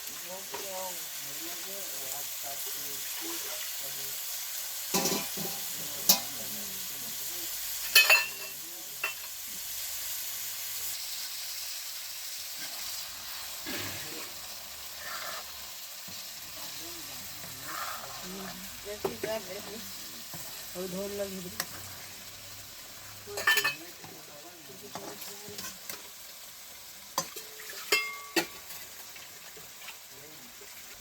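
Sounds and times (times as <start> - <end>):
food sizzling in a frying pan: 0.0 - 31.0.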